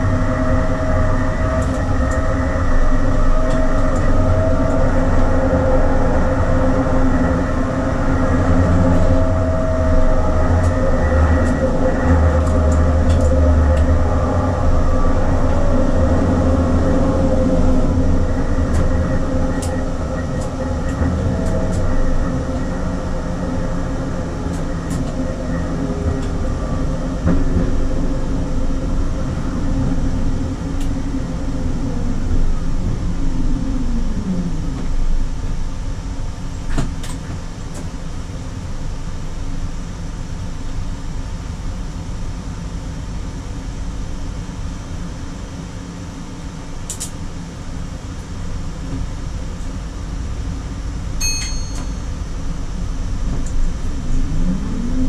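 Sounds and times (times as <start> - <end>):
tram hum: 0.0 - 55.0
tram rumbling on rails: 0.0 - 55.0.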